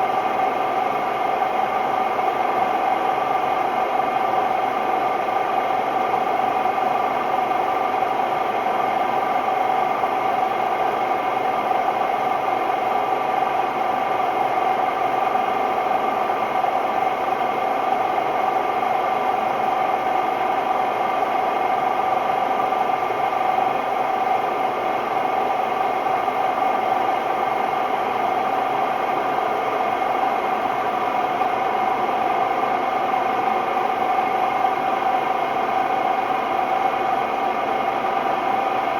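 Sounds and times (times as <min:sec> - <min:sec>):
washing machine spinning with whine: 0:00.0 - 0:38.9.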